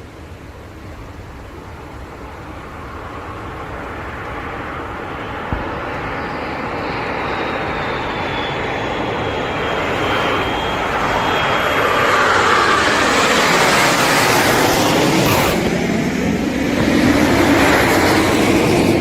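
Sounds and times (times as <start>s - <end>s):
faint high whine: 0.0s - 19.0s
aircraft engine noise: 0.1s - 19.0s.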